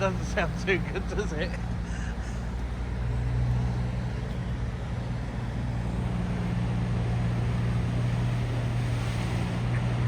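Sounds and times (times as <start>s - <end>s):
diesel engine running roughly: 0.0s - 8.9s.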